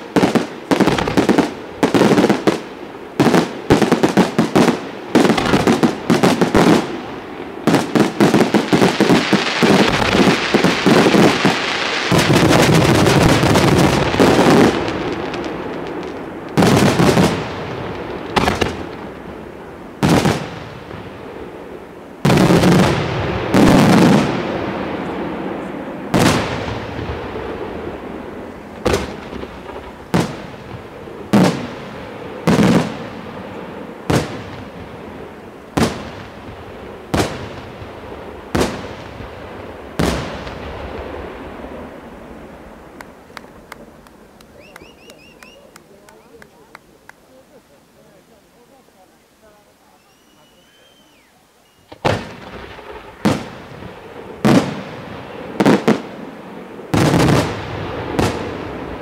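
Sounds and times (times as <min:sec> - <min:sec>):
fireworks bangs with echo: 0:00.0 - 0:46.7, 0:51.8 - 0:59.0
fireworks crackling: 0:00.0 - 0:59.0.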